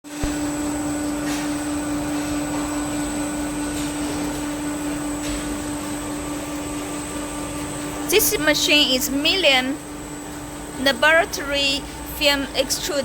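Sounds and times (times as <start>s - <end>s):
machine hum with high whine: 0.0s - 13.0s.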